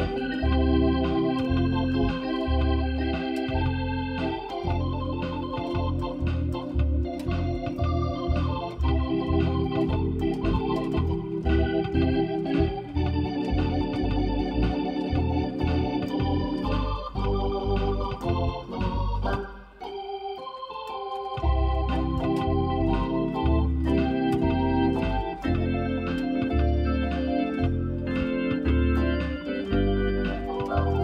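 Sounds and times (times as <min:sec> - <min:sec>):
organ playing country tune: 0:00.0 - 0:31.0.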